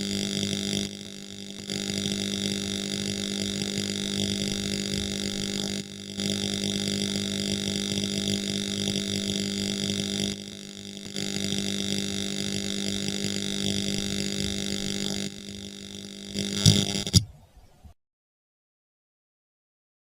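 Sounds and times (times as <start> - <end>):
welding buzzing hiss: 0.0 - 17.4.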